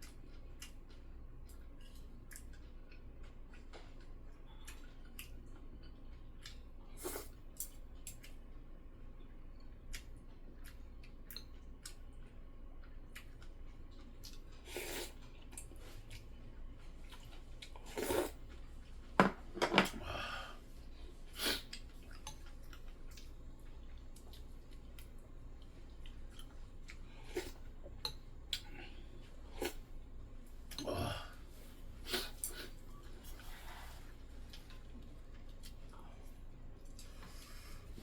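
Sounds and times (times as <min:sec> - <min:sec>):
person chewing: 0:00.0 - 0:19.1, 0:21.4 - 0:29.9, 0:30.7 - 0:37.5.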